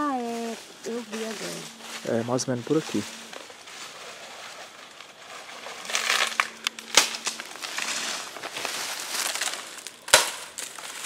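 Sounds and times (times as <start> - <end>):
dry leaves crunching: 0.0 - 11.0.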